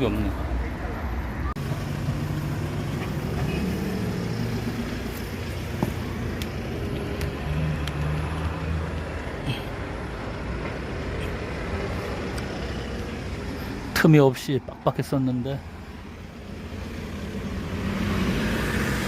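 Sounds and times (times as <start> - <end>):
road traffic noise: 0.0 - 19.0
vehicle engine humming: 0.0 - 19.0.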